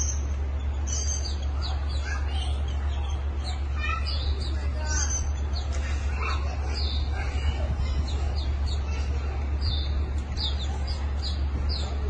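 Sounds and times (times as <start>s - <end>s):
low rumble: 0.0s - 12.0s
songbirds chirping: 0.0s - 12.0s.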